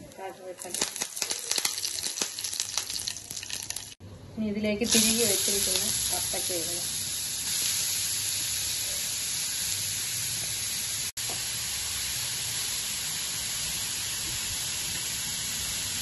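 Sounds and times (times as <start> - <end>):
food sizzling in hot oil: 0.1 - 4.0, 4.8 - 16.0.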